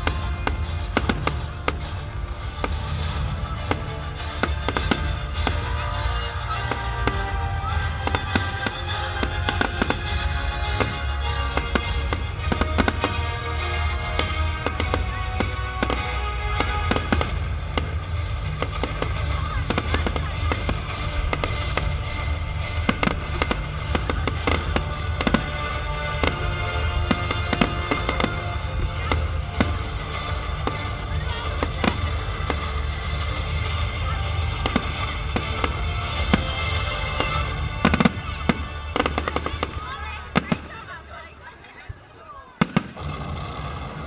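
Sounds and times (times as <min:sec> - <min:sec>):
deep steady rumble: 0:00.0 - 0:40.7
music playing: 0:00.0 - 0:41.6
fireworks bangs and crackles: 0:00.0 - 0:44.0.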